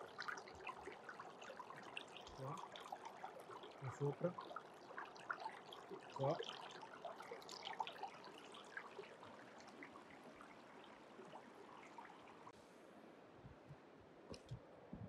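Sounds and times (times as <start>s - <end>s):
stream water trickling: 0.0s - 14.6s.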